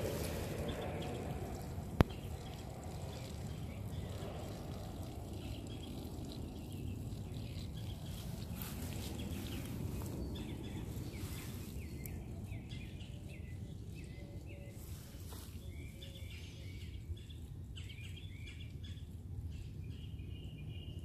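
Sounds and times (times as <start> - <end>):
low background rumble: 0.0 - 21.0
small birds chirping: 0.0 - 21.0.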